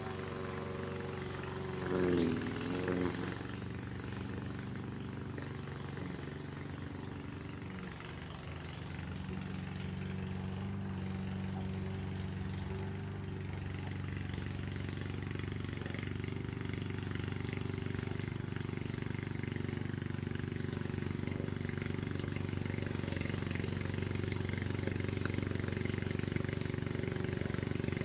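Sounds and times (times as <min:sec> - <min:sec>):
mower engine running: 0:00.0 - 0:28.0.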